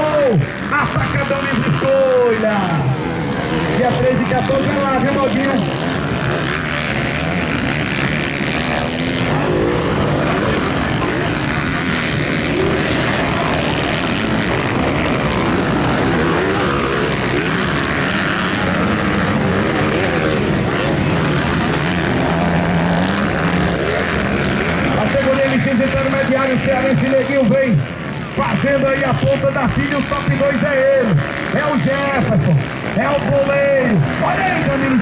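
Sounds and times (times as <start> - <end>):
motocross bikes engines revving: 0.0 - 35.0.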